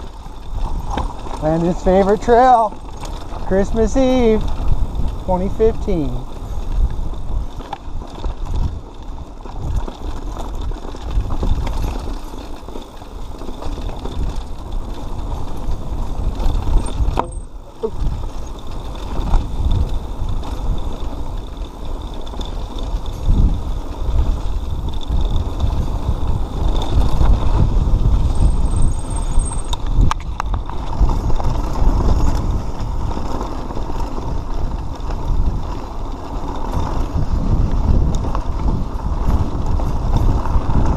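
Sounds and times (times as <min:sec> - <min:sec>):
bike knocking and rattling: 0:00.0 - 0:40.9
bike tyres rumbling over dirt: 0:00.0 - 0:40.9
wind buffeting microphone: 0:00.0 - 0:40.9.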